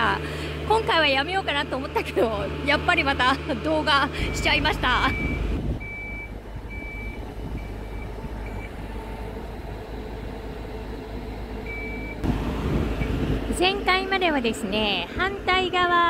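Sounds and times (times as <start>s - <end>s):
hoist engine rumble: 0.0s - 16.0s.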